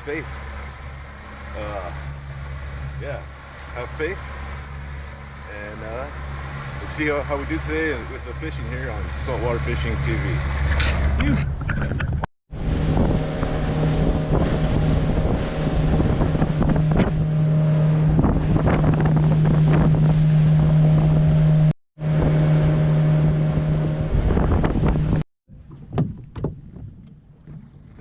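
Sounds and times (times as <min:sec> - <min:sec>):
motorboat engine running: 0:00.0 - 0:28.0
wind buffeting microphone: 0:00.1 - 0:28.0.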